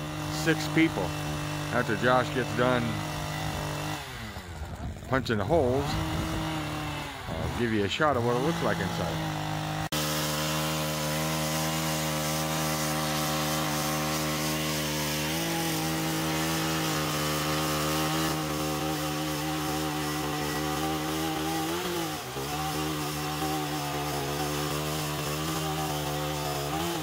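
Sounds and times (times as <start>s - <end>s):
power ice auger drilling: 0.0s - 27.0s.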